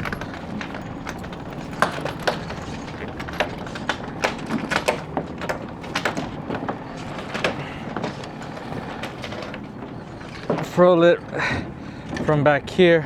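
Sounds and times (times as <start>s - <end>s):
sails and rigging snapping: 0.0s - 13.0s.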